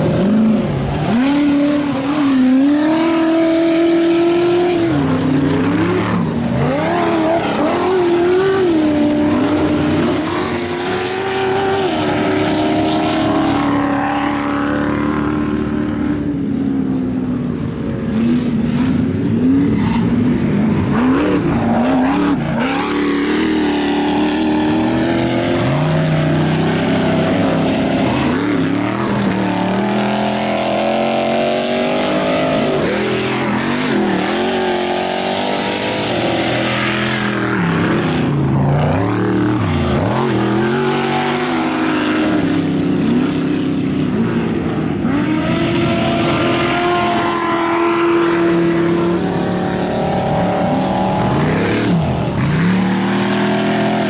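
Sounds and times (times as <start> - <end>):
buggy engines revving: 0.0 - 54.0.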